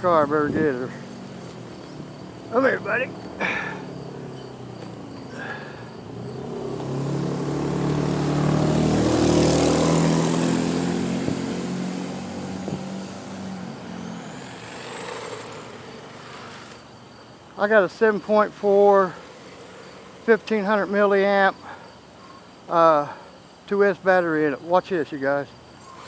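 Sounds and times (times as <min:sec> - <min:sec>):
car driving past: 0:00.0 - 0:17.3, 0:18.1 - 0:22.6.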